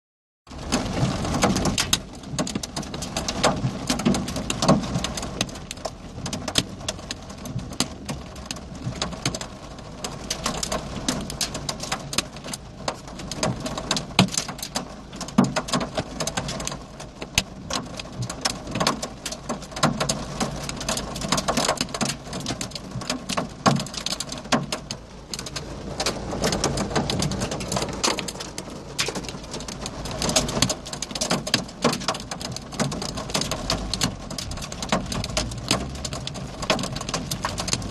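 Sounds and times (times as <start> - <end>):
hailstones ticking on car: 0.5 - 37.9
rain hissing on car roof: 0.5 - 37.9.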